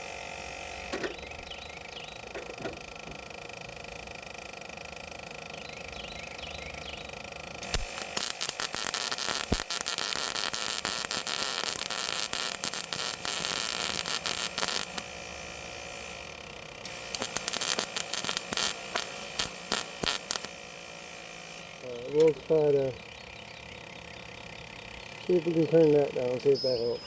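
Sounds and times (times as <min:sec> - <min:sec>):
welding arc crackling: 0:00.0 - 0:27.0.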